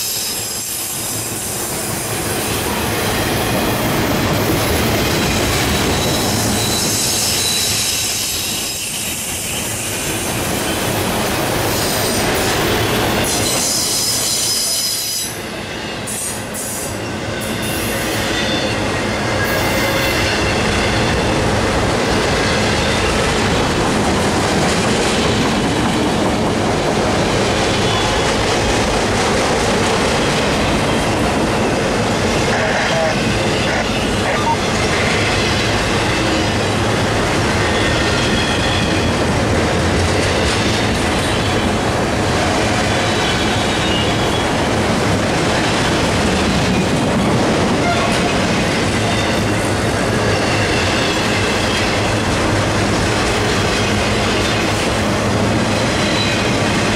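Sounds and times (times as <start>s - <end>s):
train wheels running on rails: 0.0s - 56.9s.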